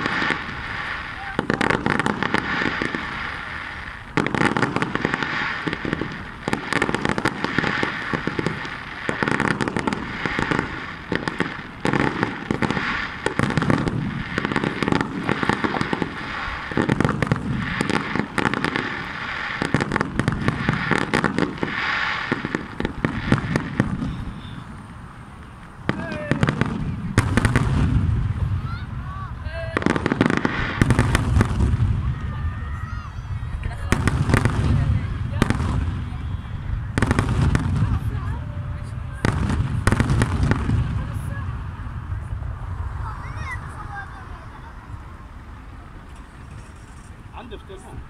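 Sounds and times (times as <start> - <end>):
fireworks bangs and crackling: 0.0 - 48.0.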